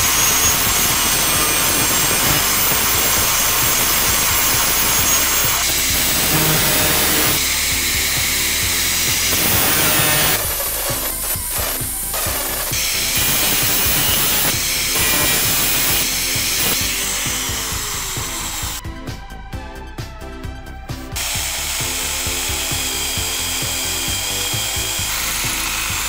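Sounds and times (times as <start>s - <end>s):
angle grinder on steel rod: 0.0s - 18.8s, 21.2s - 26.0s
electric drill: 0.0s - 18.8s, 21.1s - 26.0s
music with steady beat: 0.1s - 26.0s.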